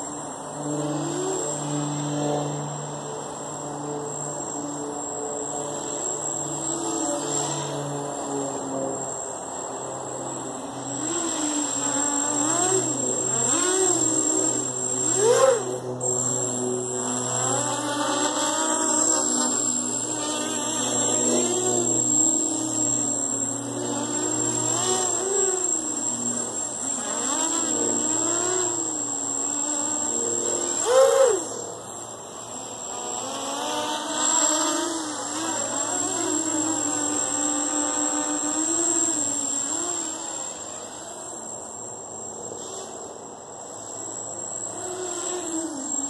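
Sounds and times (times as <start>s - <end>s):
drone motors buzzing whine: 0.0s - 46.0s.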